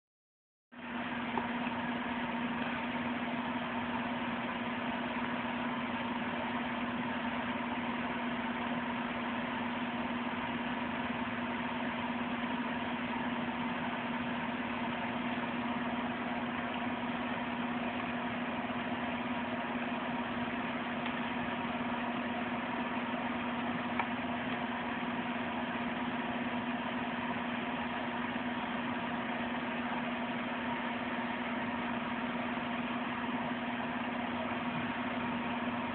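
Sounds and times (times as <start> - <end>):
low mechanical hum with hiss: 0.8 - 35.9.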